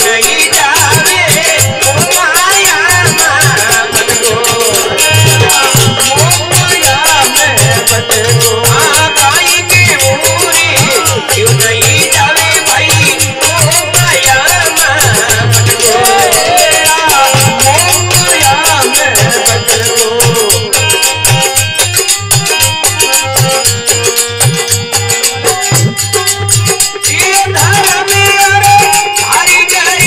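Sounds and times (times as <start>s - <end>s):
fast hand drum beat: 0.0s - 30.0s
harmonium chords and melody: 0.0s - 30.0s.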